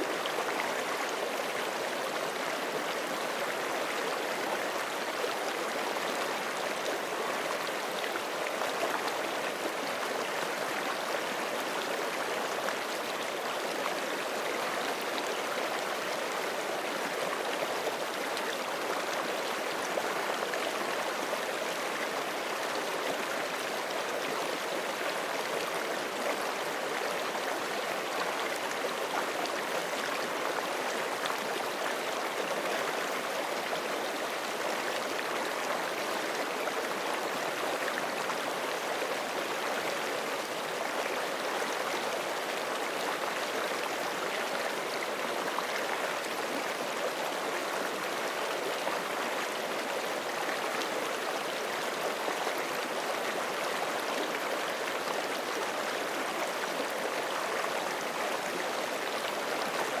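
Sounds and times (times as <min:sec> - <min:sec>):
creek running over rocks: 0:00.0 - 1:00.0.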